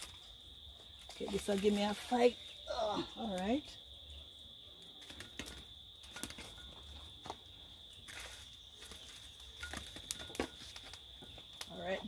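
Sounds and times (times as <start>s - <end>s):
high drone of insects: 0.0s - 12.0s.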